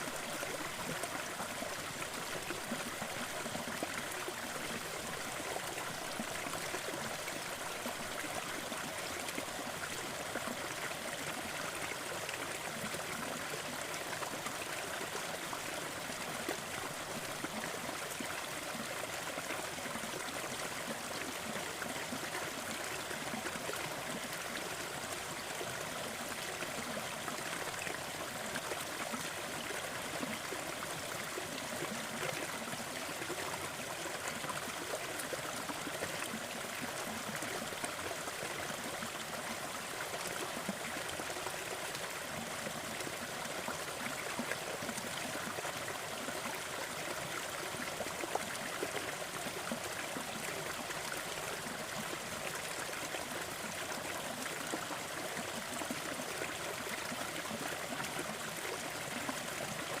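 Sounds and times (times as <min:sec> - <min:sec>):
waterfall splashing and trickling: 0:00.0 - 1:00.0.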